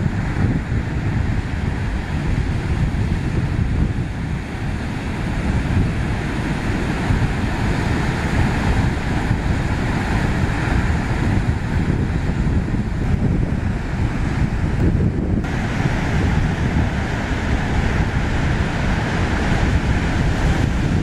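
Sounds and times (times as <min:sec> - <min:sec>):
heavy surf crashing: 0:00.0 - 0:21.0
wind buffeting microphone: 0:00.0 - 0:21.0.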